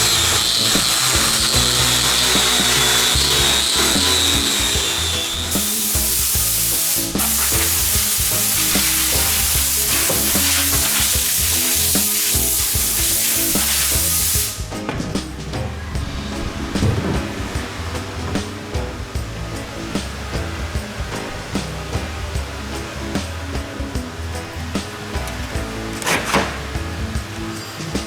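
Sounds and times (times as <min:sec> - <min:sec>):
background music: 0:00.0 - 0:28.0
power tool hissing: 0:00.0 - 0:28.0
power tool whining: 0:00.0 - 0:28.0.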